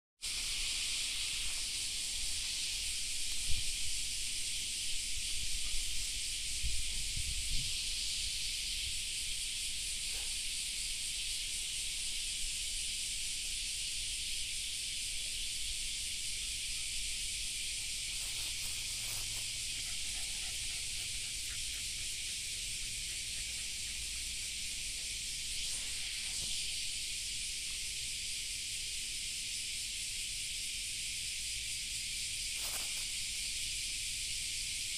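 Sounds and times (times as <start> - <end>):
cicada chorus: 0.2 - 34.9.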